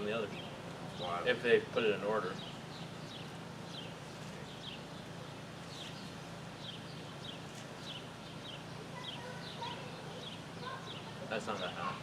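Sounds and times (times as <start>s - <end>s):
bird chirping: 2.2s - 12.0s.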